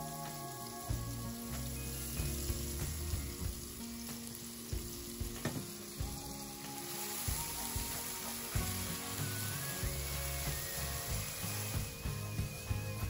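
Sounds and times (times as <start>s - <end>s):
background music: 0.0s - 13.0s
paste sizzling in hot oil: 0.0s - 13.0s.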